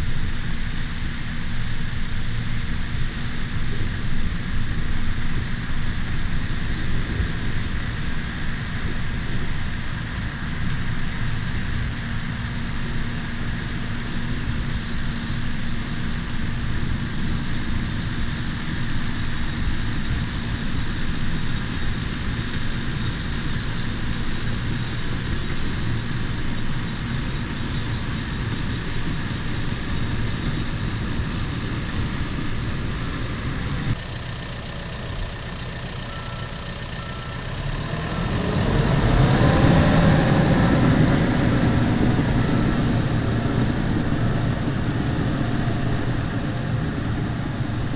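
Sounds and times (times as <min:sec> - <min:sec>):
bulldozer diesel engine running: 0:00.0 - 0:47.9
rumble of tracks: 0:00.0 - 0:47.9.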